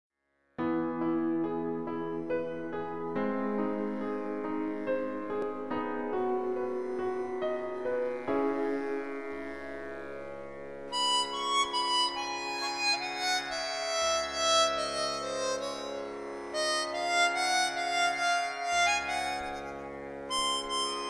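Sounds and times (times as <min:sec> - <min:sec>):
instrumental background music: 0:00.6 - 0:21.0.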